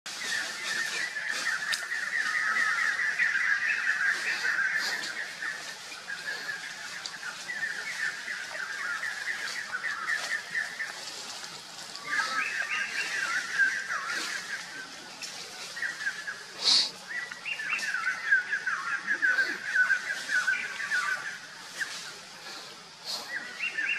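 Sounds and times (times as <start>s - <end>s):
birds chirping in fast runs: 0.1s - 23.9s.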